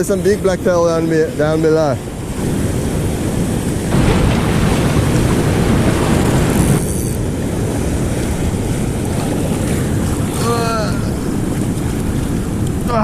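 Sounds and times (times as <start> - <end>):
surf washing on rocks: 0.0 - 13.0
wind buffeting the microphone: 0.0 - 13.0.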